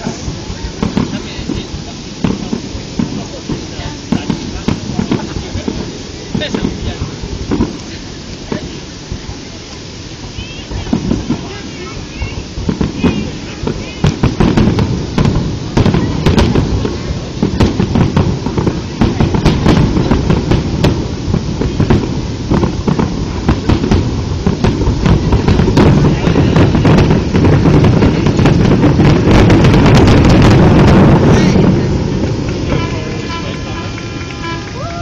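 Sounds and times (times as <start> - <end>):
continuous rumble: 0.0 - 35.0
fireworks bangs and crackles: 0.0 - 35.0.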